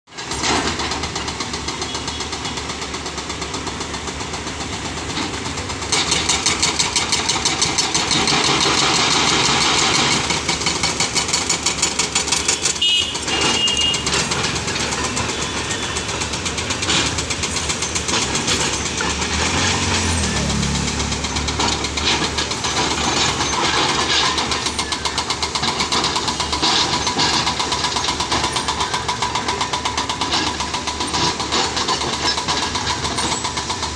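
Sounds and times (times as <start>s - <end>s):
excavator diesel engines: 0.1s - 33.9s.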